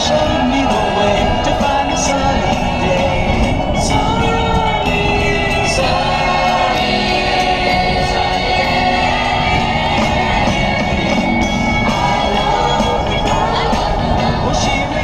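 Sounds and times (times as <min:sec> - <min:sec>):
music with singing voice: 0:00.0 - 0:15.0.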